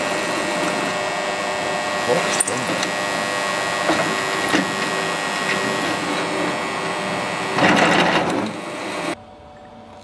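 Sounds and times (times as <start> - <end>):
drill press cutting metal: 0.0 - 9.2.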